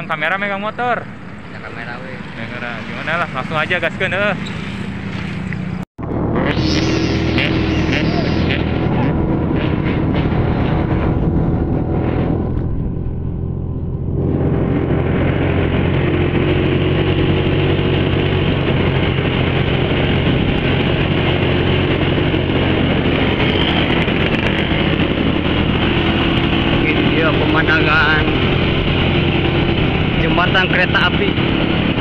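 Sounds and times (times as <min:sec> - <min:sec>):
motorcycle engine running: 0:02.6 - 0:32.0
wind rushing over microphone: 0:06.0 - 0:32.0.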